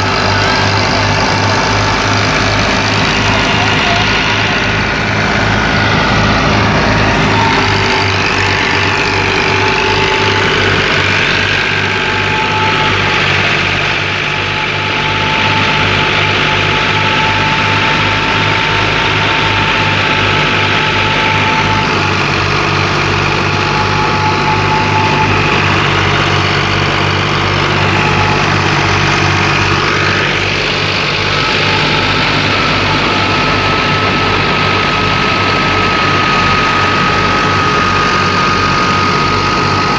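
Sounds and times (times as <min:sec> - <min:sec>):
steady whine: 0:00.0 - 0:39.9
tractor diesel engine running: 0:00.0 - 0:39.9.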